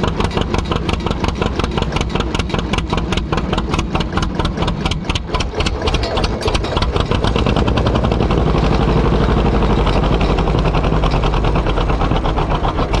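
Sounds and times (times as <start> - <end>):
tractor engine popping exhaust: 0.0 - 13.0.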